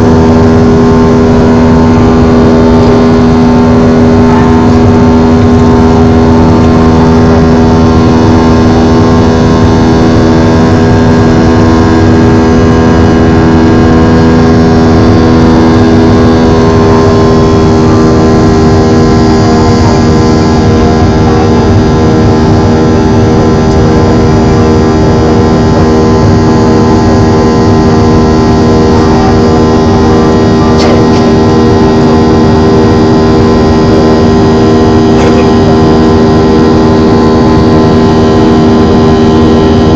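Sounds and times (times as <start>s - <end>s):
jet engine cabin noise: 0.0s - 39.9s
steady humming tones: 0.0s - 39.9s.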